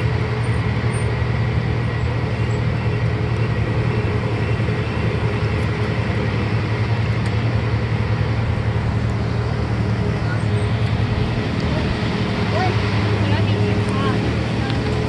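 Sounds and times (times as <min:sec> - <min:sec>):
road noise: 0:00.0 - 0:15.0
tram motor drone: 0:00.0 - 0:15.0.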